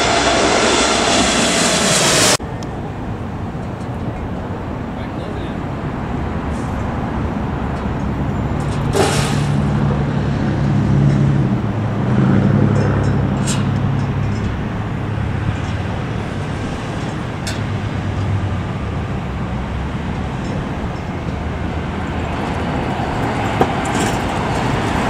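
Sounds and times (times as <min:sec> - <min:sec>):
heavy vehicle engine hum: 0:00.0 - 0:25.0
road traffic rumble: 0:00.0 - 0:25.0.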